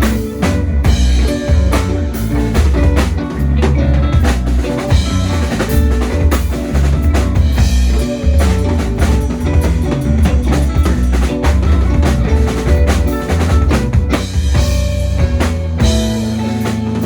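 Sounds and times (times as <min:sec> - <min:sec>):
bass line: 0:00.0 - 0:17.0
drum kit beats: 0:00.0 - 0:17.0
live rock band playing: 0:00.0 - 0:17.0.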